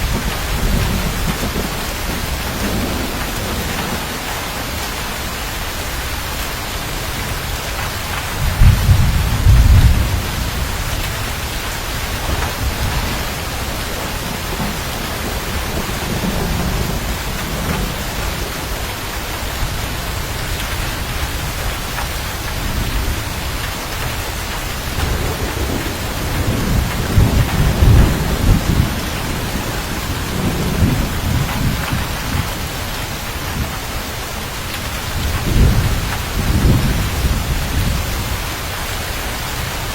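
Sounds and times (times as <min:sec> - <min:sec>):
low thunder rumbling: 0:00.0 - 0:39.9
steady rain: 0:00.0 - 0:39.9.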